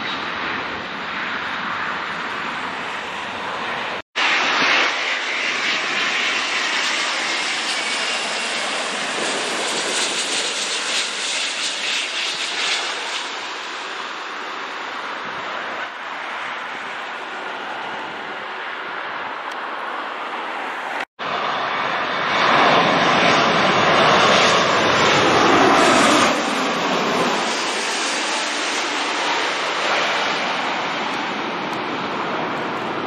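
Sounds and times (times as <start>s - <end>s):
jet airliner landing roar: 0.0s - 33.0s
jet engine roar on runway: 0.0s - 33.0s.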